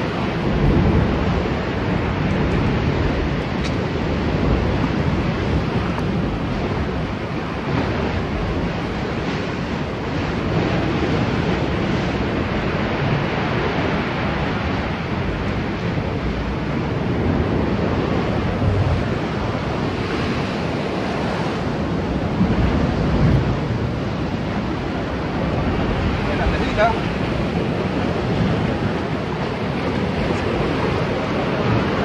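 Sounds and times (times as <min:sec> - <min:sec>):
sea surf on rocky shore: 0:00.0 - 0:32.0
wind buffeting microphone: 0:00.0 - 0:32.0.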